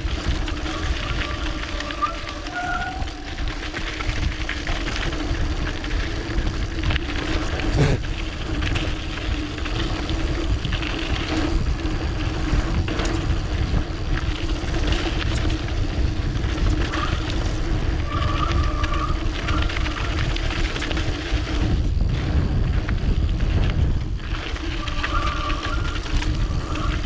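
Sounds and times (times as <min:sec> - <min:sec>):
bike tyres on dirt trail: 0:00.0 - 0:27.0
wind rumbling on microphone: 0:00.0 - 0:27.0.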